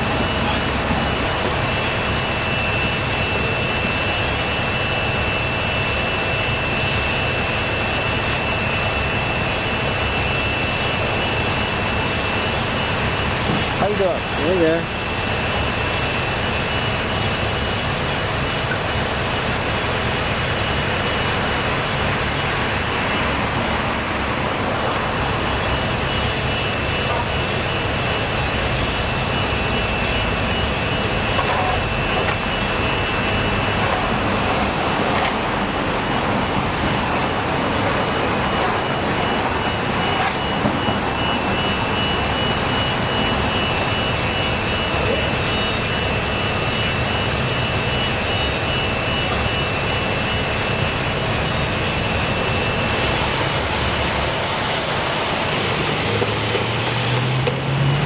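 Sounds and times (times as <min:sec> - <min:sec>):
motor vehicle noise: 0:00.0 - 0:58.0.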